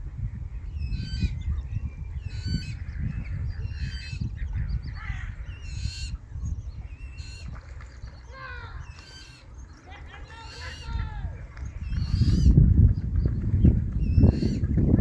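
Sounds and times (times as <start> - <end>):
birds calling: 0.5 - 15.0.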